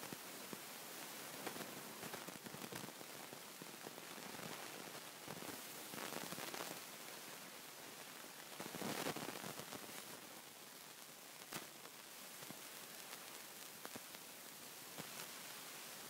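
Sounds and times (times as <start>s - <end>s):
steady recording hiss: 0.0s - 16.0s.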